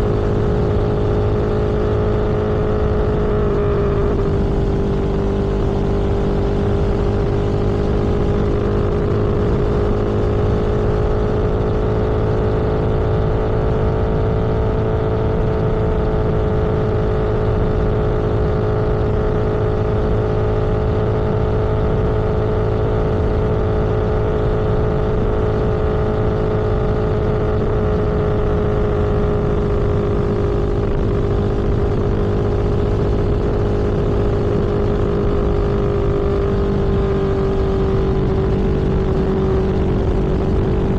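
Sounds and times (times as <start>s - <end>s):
vehicle engine cruising: 0.0s - 40.9s
wind noise: 0.0s - 40.9s.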